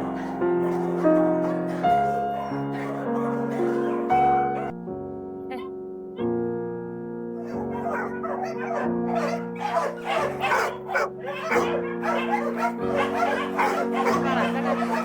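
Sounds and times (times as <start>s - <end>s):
many dogs barking: 0.0s - 4.7s, 7.4s - 15.0s
slow piano music: 0.0s - 15.0s.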